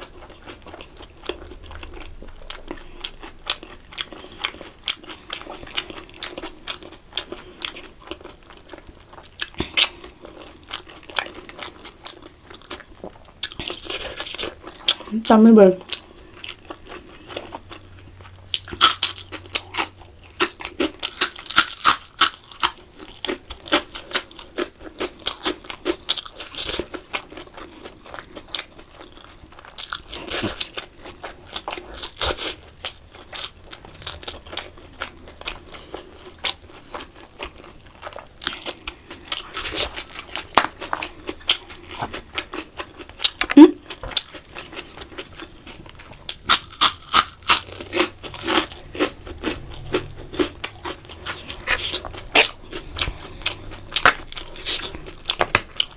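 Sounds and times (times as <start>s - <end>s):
person chewing and crunching food: 0.0s - 55.9s.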